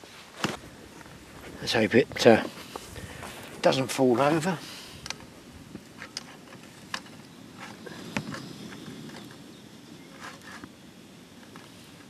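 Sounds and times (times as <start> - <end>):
camping stove burning: 0.0 - 12.0.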